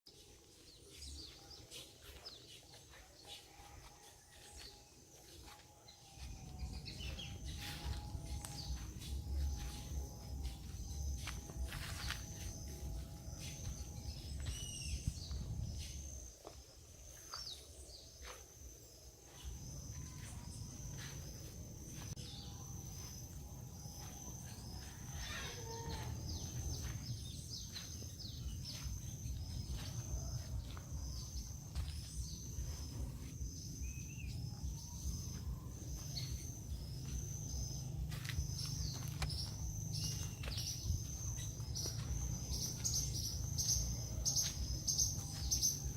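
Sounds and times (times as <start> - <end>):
birds chirping: 0.1 - 45.9.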